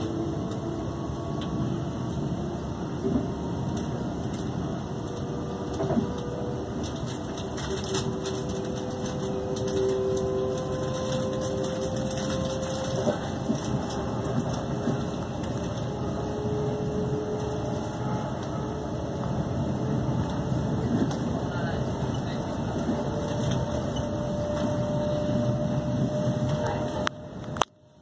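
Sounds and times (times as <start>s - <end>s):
train cabin rumble: 0.0s - 28.0s.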